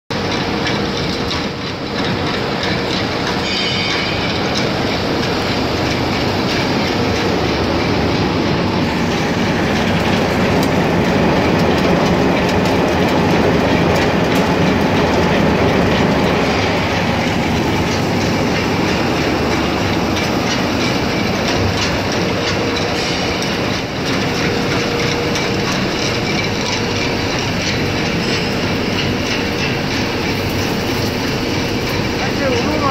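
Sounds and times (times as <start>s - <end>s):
machine hum: 0.1s - 32.9s
separator machine rattling: 0.1s - 32.9s.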